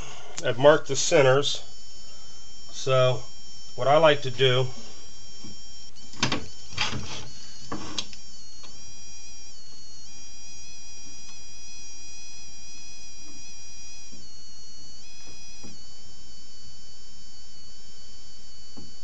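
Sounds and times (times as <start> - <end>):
high-pitched electrical whine: 0.0 - 19.0.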